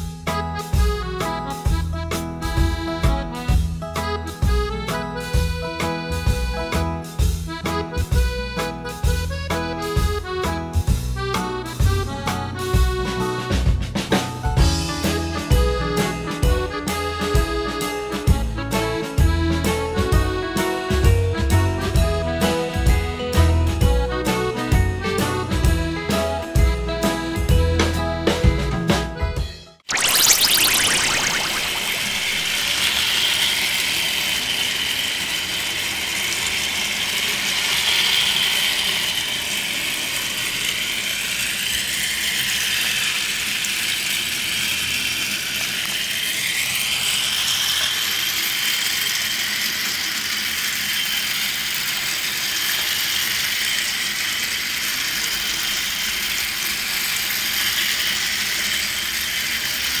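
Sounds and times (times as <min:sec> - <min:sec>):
toy train motors whirring: 0:00.2 - 0:27.6, 0:30.0 - 1:00.0.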